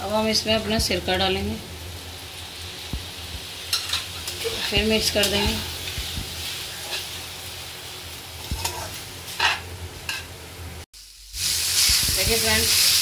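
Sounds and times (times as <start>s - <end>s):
fried rice sizzling in a pan: 0.0s - 13.0s.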